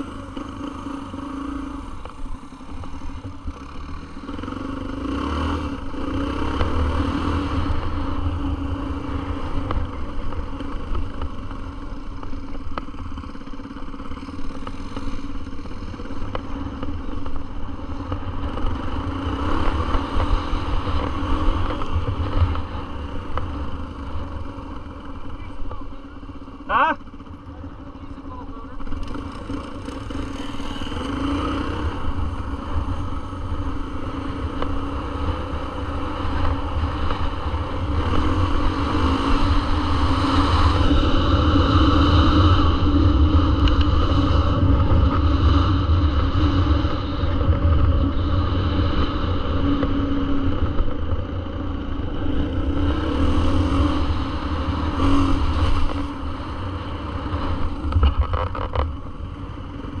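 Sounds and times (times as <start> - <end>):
dirt bike engine running: 0.0 - 60.0
wind rumbling on microphone: 5.1 - 26.1, 28.9 - 60.0.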